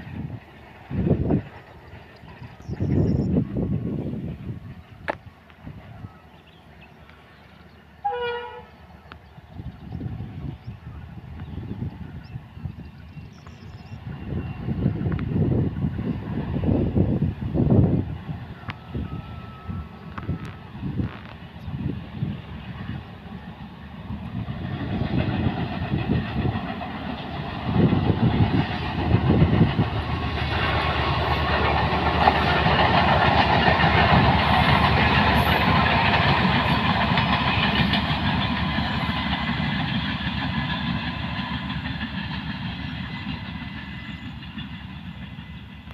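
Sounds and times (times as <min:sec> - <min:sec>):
diesel locomotive engine: 0:00.0 - 0:45.9
train wheels on rails: 0:00.0 - 0:45.9.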